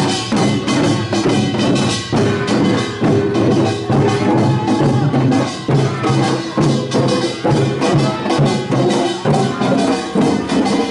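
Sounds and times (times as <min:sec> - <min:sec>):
drums playing fast rhythm: 0:00.0 - 0:10.9
small gongs: 0:00.0 - 0:10.9.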